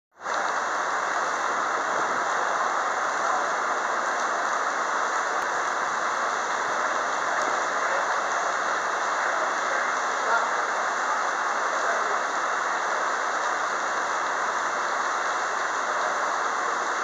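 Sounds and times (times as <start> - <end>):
heavy rain falling: 0.1 - 17.0.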